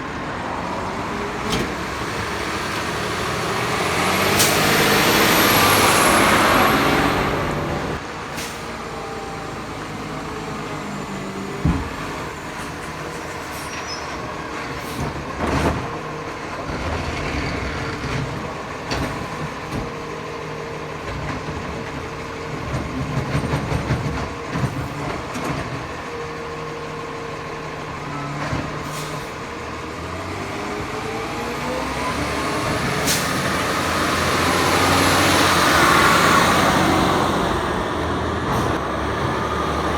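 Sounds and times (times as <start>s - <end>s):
garbage truck engine running: 0.0s - 39.9s.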